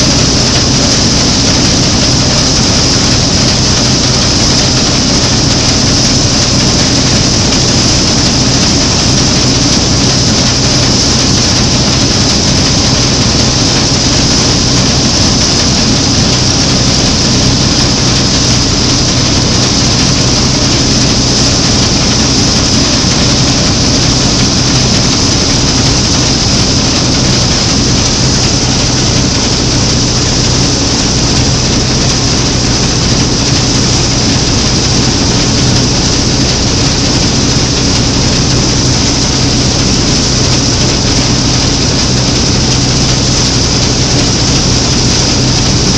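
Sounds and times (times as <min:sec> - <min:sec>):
combine harvester engine: 0:00.0 - 0:45.9
rattle of working machine: 0:00.0 - 0:45.9.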